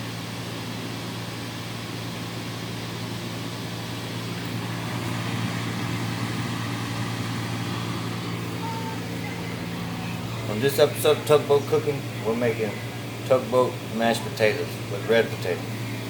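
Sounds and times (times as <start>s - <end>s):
machinery humming: 1.0s - 16.0s
ventilation hiss: 1.9s - 16.0s.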